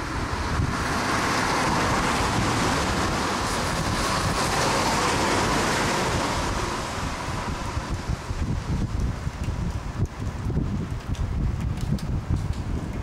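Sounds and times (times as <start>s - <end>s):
heavy rain: 0.0s - 13.0s
wind buffeting microphone: 0.0s - 13.0s.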